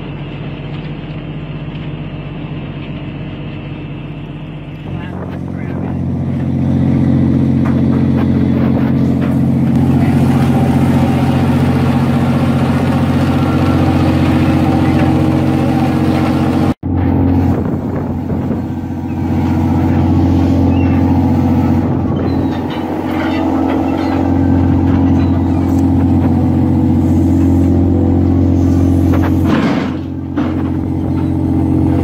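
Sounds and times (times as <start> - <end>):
boat engine and hydraulics drone: 0.0 - 32.0.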